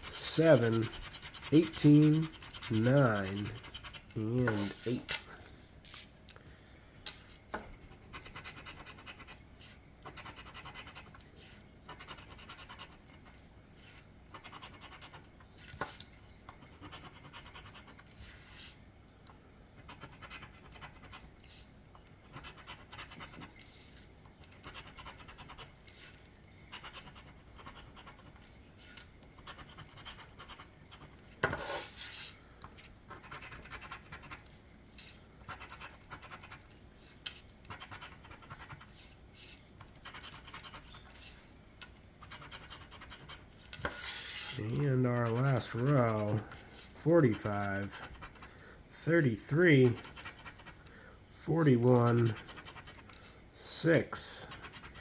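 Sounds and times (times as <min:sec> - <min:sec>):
scratching lottery ticket: 0:00.0 - 0:05.2, 0:07.8 - 0:18.8, 0:19.7 - 0:55.0.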